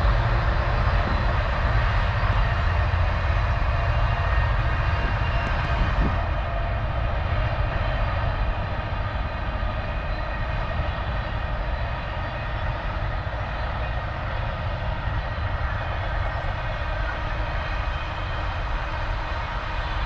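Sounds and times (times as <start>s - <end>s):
distant freight train rumbling: 0.0s - 20.0s.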